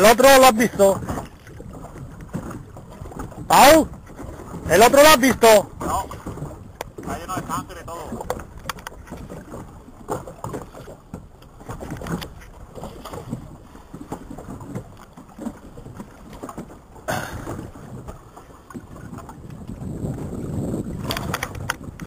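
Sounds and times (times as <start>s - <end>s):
sea water splashing: 0.0s - 22.0s.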